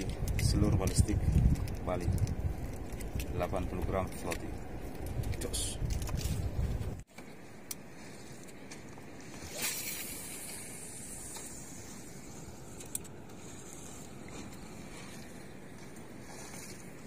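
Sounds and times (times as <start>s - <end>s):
wind and sea hiss: 0.0s - 17.0s.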